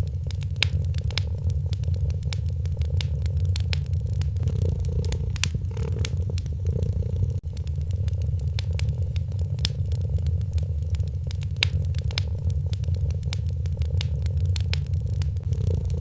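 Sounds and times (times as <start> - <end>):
cat purring: 0.0 - 16.0
wood fire crackling and popping: 0.0 - 16.0.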